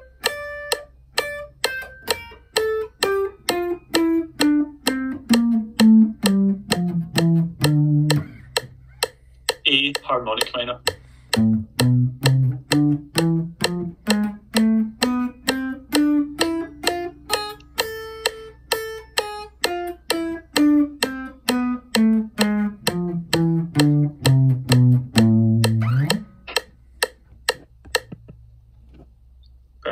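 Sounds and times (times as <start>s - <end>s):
electric guitar picking scale: 0.0s - 28.3s
string clicks: 0.0s - 29.9s.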